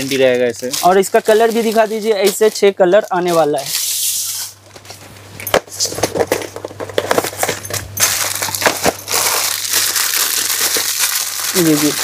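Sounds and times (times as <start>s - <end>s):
plastic packaging crinkling: 0.0s - 5.0s, 5.9s - 12.0s.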